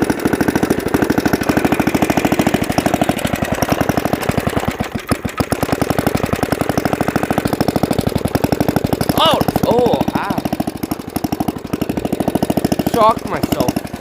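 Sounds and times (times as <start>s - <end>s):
single-cylinder engine running: 0.0s - 14.0s.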